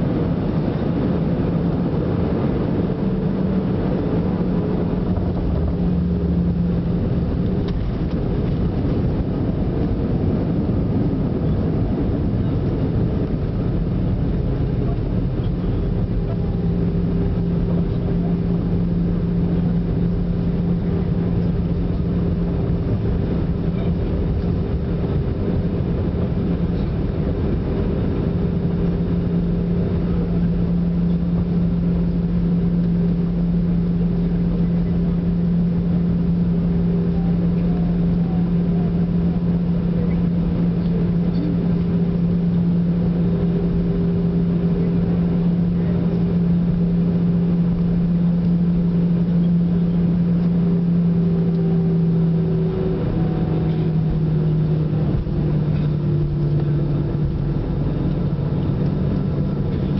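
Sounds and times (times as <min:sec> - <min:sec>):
jet engine cabin drone: 0:00.0 - 0:59.9
steady low hum: 0:00.0 - 0:59.9.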